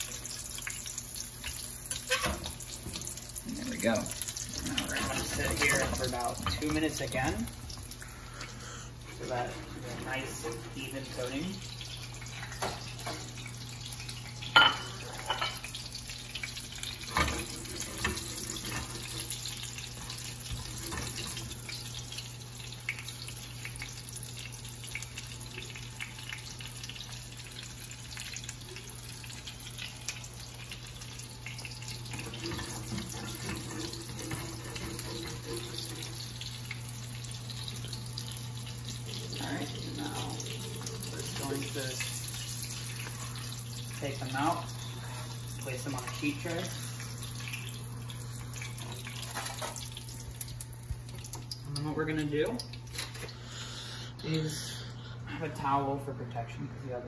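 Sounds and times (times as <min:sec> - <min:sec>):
chicken sizzling in hot oil: 0:00.0 - 0:54.5
low steady hum: 0:00.0 - 0:57.0.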